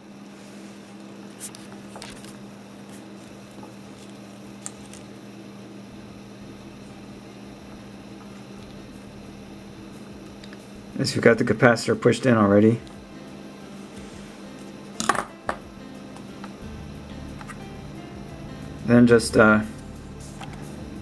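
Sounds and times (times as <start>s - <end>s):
low hum: 0.0s - 11.8s, 12.8s - 21.0s.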